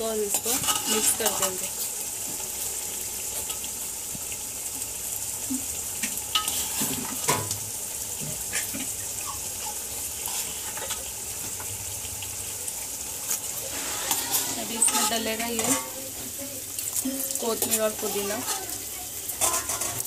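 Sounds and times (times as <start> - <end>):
gravy bubbling and sizzling: 0.0 - 20.0.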